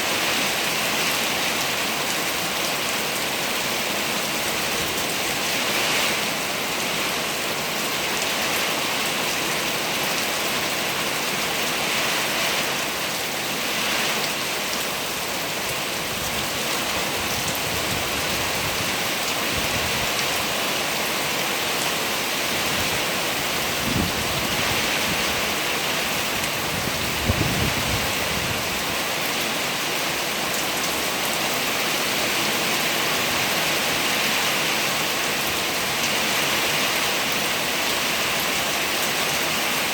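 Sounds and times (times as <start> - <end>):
heavy rain: 0.0 - 39.9
wind: 0.0 - 39.9.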